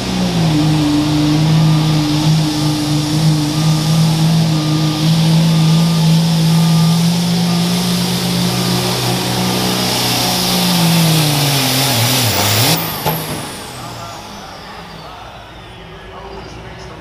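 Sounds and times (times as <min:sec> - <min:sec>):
diesel engine under heavy load: 0:00.0 - 0:17.0.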